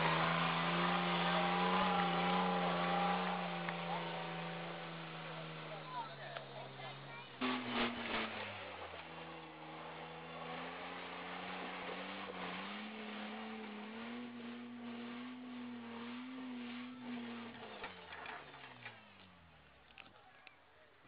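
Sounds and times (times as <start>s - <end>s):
vehicle engine running at low revs: 0.0s - 20.6s.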